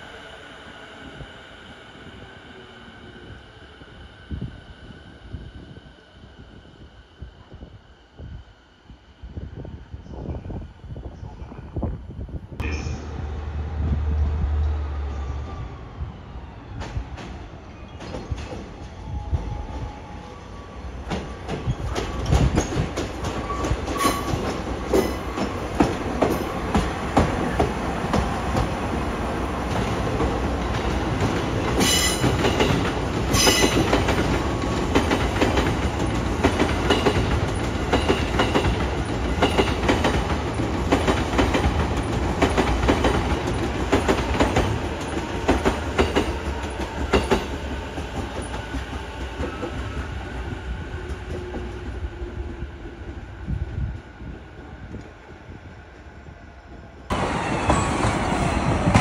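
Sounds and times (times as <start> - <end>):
diesel locomotive engine rumble: 0.0 - 59.0.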